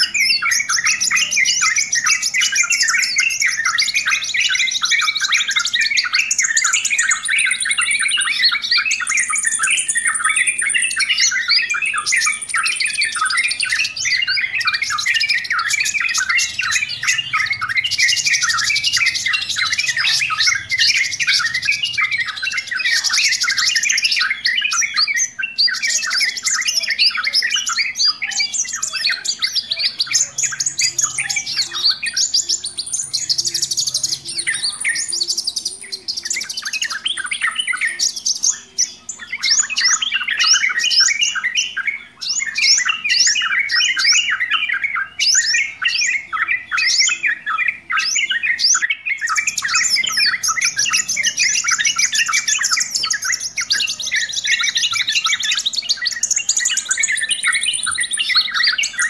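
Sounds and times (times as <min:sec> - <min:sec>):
bulbuls chattering: 0:00.0 - 0:59.0.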